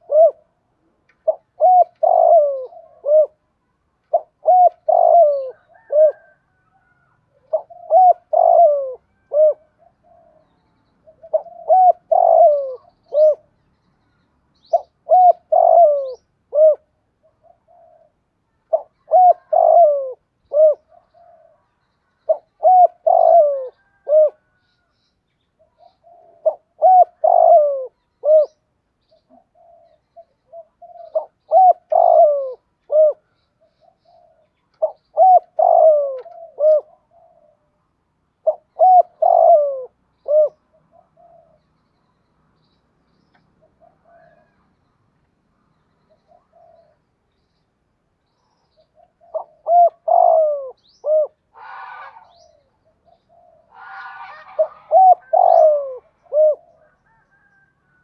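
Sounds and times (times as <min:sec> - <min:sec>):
dove cooing: 0:00.0 - 0:13.5, 0:14.6 - 0:24.9, 0:25.6 - 0:41.7, 0:43.5 - 0:44.6, 0:46.1 - 0:47.1, 0:48.5 - 0:58.0.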